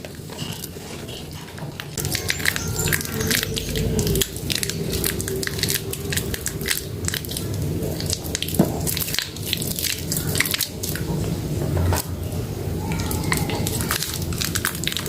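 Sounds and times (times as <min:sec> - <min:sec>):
wet soap squishing: 0:00.0 - 0:15.0.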